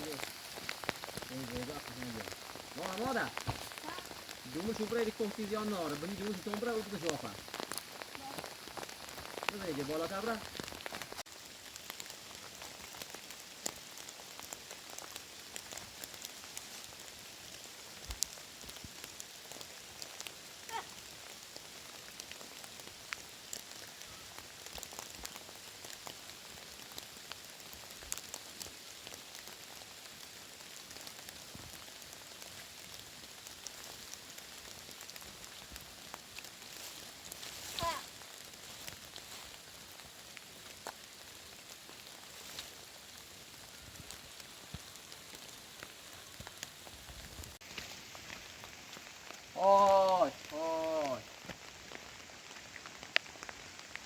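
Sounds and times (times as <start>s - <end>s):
rain falling: 0.0s - 54.0s
water drops and drips: 0.0s - 54.0s.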